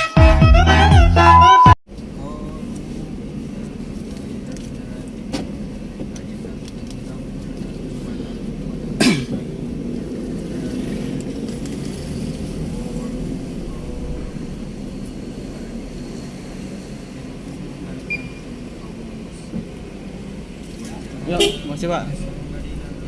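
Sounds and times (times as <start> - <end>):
ambulance engine and road noise: 0.0 - 23.0.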